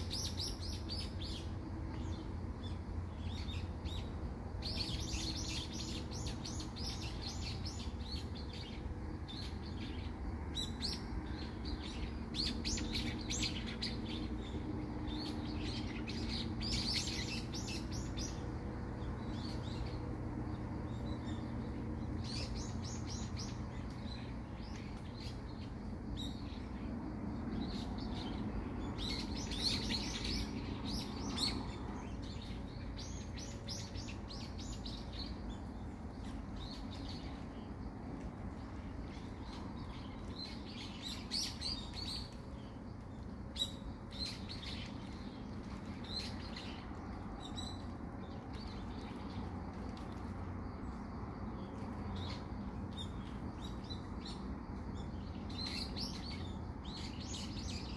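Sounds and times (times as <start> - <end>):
low background hum: 0.0 - 57.9
small birds chirping: 0.0 - 57.9.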